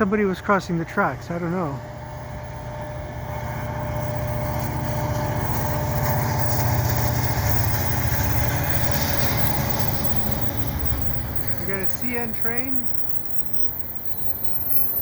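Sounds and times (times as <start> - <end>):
diesel locomotive engine working: 0.0 - 15.0
faint engine whine: 0.0 - 15.0.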